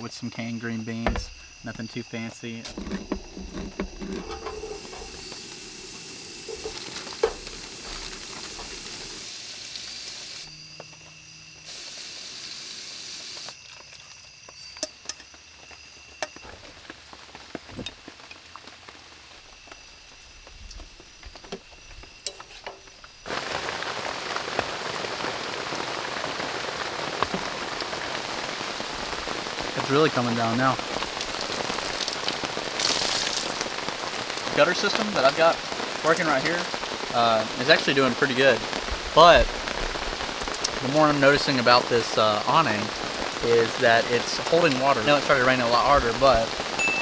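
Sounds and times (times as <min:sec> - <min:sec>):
heavy rain on an awning: 0:02.7 - 0:10.6, 0:11.6 - 0:13.6, 0:16.4 - 0:47.0
food sizzling in a frying pan: 0:02.8 - 0:47.0.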